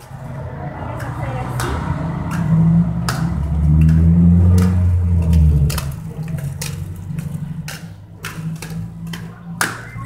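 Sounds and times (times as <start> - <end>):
inline skate wheels rolling on concrete: 0.0 - 10.0
skates clicking and knocking: 0.0 - 10.0.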